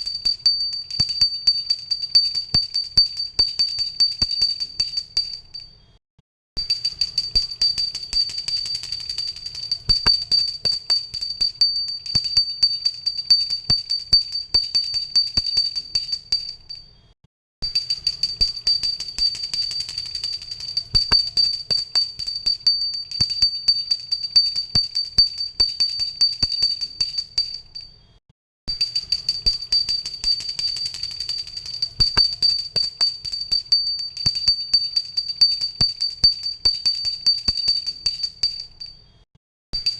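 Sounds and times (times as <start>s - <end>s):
hand bell rung rapidly: 0.0s - 5.7s, 6.6s - 16.8s, 17.7s - 27.9s, 28.7s - 39.0s.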